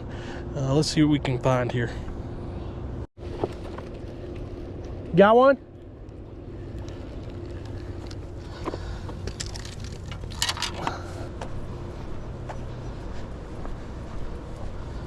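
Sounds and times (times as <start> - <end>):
low outdoor rumble with hum: 0.0 - 15.0.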